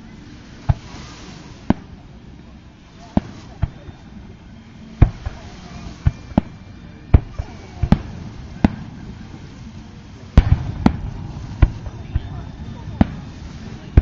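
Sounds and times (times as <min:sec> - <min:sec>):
fireworks bangs: 0:00.4 - 0:14.0.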